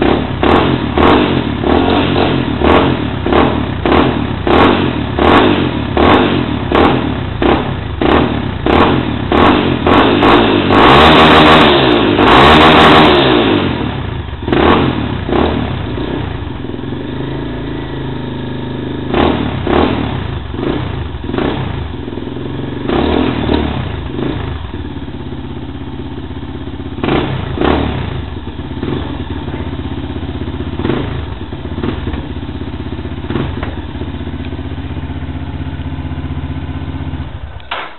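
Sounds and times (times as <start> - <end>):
motorcycle engine idling: 0.0 - 37.9
motorcycle engine revving: 0.0 - 37.9.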